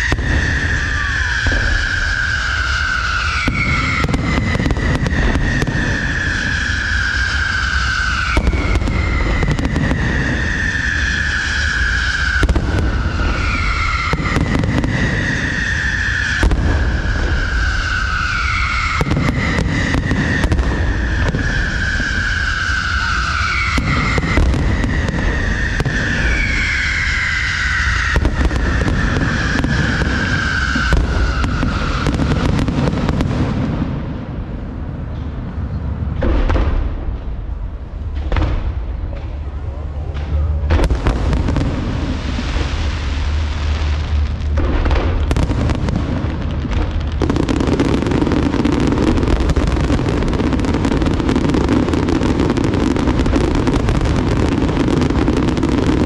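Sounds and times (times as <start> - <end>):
sharp firework cracks: 0.0 - 34.2, 40.1 - 56.0
descending whistling firework: 0.0 - 56.0
fireworks bursts rumbling: 0.0 - 56.0.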